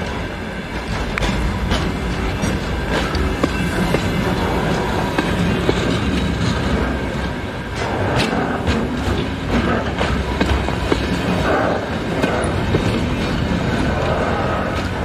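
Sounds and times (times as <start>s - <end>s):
train wheels rumbling on rail: 0.0s - 15.0s
wheels clicking over rail joints: 0.0s - 15.0s.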